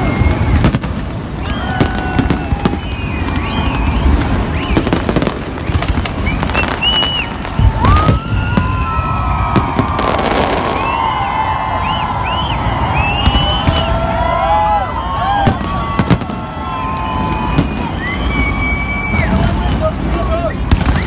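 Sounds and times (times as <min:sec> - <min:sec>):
fireworks bangs and crackles: 0:00.0 - 0:21.0
fireworks whistling: 0:00.0 - 0:21.0.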